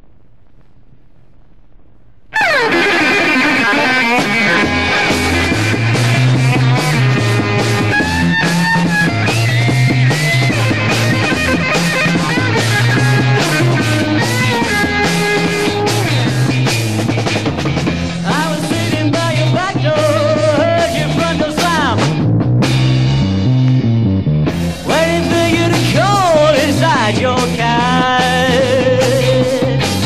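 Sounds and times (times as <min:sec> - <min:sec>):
bass line: 0:00.0 - 0:30.0
drum kit: 0:02.3 - 0:30.0
electric guitar lead: 0:02.3 - 0:30.0.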